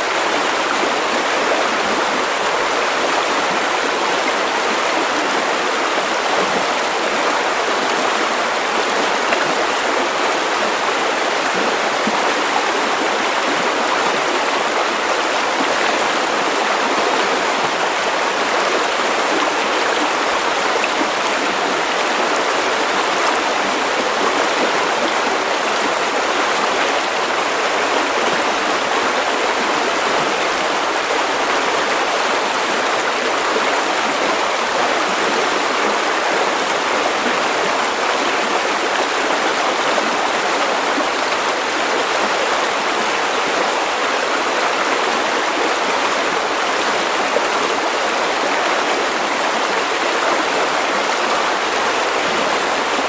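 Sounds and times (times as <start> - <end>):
river water over stones: 0.0 - 53.0.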